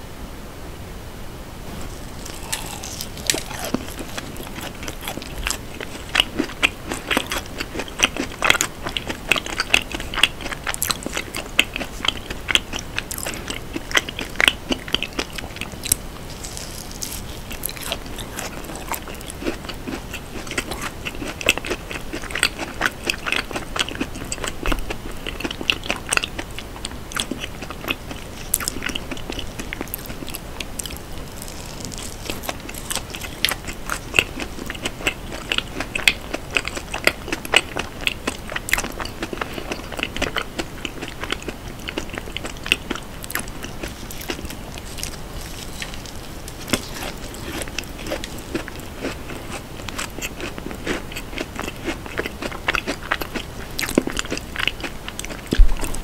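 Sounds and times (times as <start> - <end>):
biting and chewing cake: 1.7 - 56.0.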